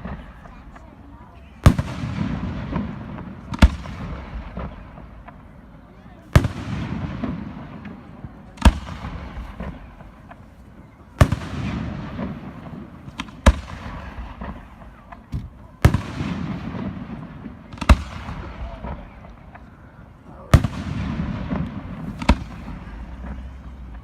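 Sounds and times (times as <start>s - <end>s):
small firework pops: 0.0s - 1.0s, 1.6s - 5.7s, 6.3s - 19.9s, 20.5s - 24.0s.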